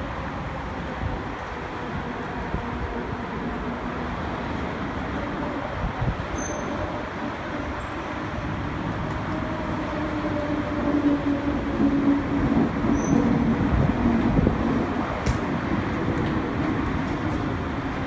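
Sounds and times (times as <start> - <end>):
train rolling noise: 0.0 - 18.0.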